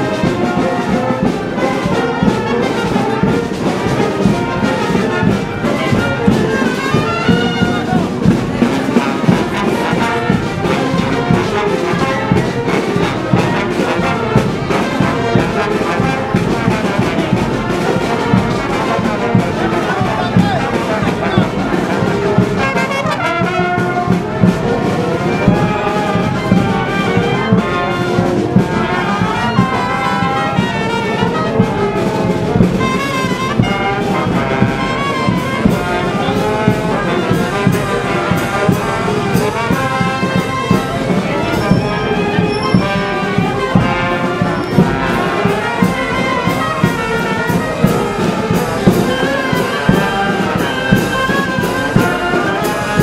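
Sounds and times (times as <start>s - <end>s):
marching brass band playing: 0.0s - 53.0s.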